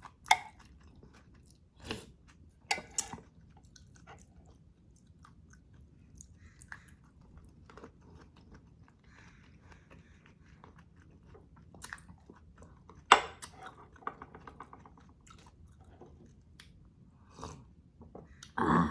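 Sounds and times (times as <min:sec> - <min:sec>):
person chewing food: 0:00.0 - 0:18.6.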